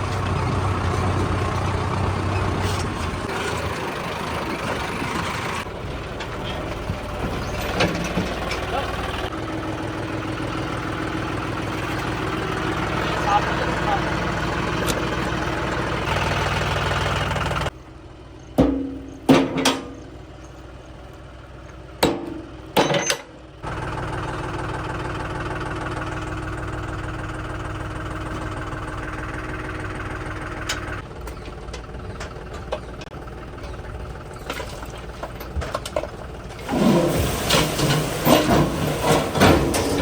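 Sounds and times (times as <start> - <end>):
diesel tractor engine running: 0.0 - 40.0.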